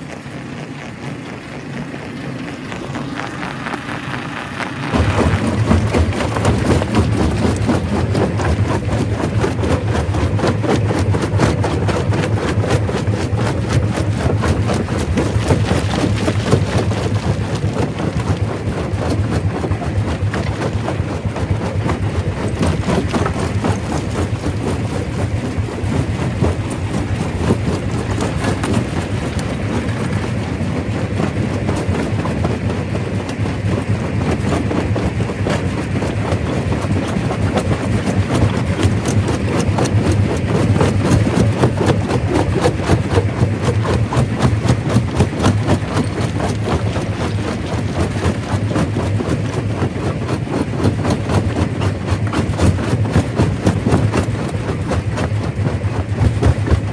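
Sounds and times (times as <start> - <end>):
rock crusher drone: 0.0 - 54.8.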